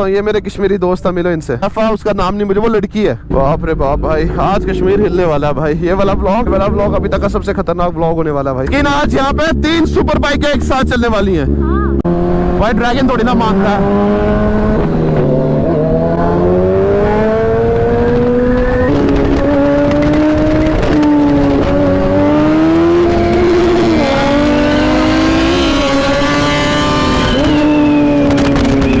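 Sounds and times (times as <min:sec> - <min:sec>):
motorcycle engines accelerating: 0:03.4 - 0:29.0.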